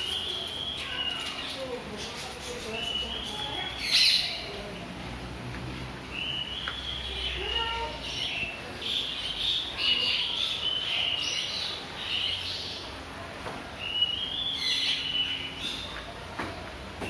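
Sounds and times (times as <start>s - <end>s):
birds chirping and calling: 0.0s - 4.9s, 6.0s - 13.1s, 13.8s - 16.2s.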